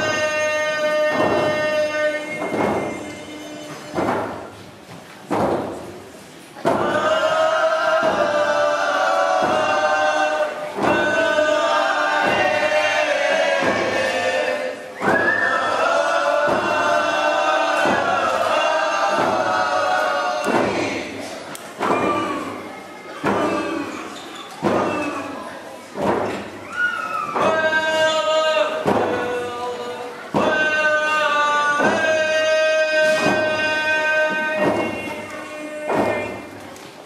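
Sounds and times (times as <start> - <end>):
group singing: 0.0 - 4.5, 6.6 - 22.6, 27.4 - 36.5.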